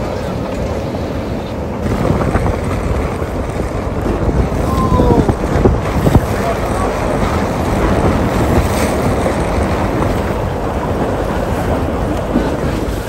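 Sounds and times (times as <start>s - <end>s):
choppy water slapping hulls: 0.0s - 13.0s
strong wind buffeting microphone: 0.0s - 13.0s.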